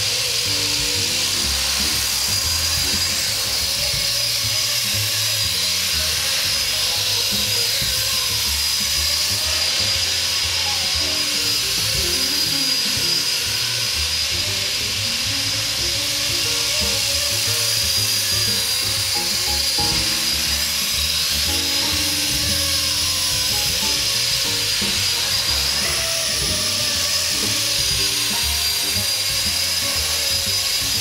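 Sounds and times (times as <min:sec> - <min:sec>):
background music: 0:00.0 - 0:31.0
model helicopter rotor whine: 0:00.0 - 0:31.0.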